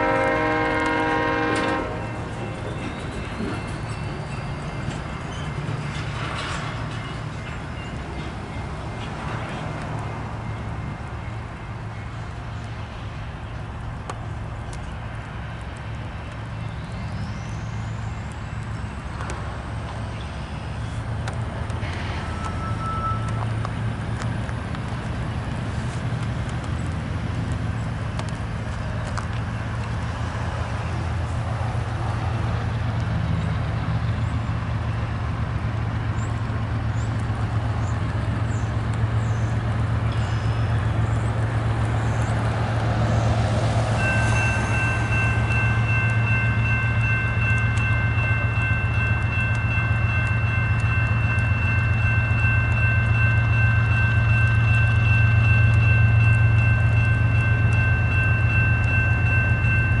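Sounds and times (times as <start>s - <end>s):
train rumbling by: 0.0s - 60.0s.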